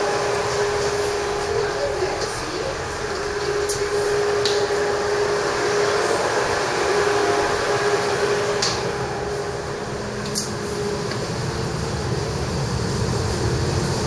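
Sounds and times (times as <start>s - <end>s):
mechanical hum with droning tone: 0.0s - 14.0s.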